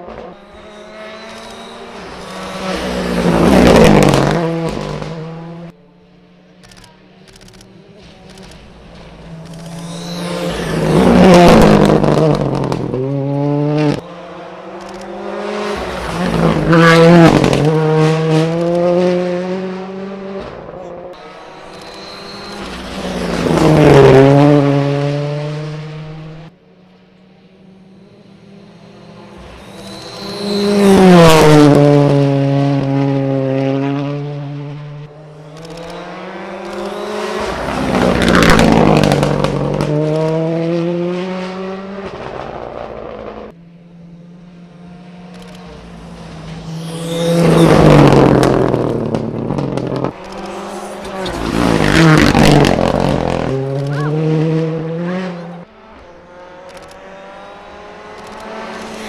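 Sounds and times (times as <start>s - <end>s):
rally cars passing at full throttle: 0.0s - 59.0s.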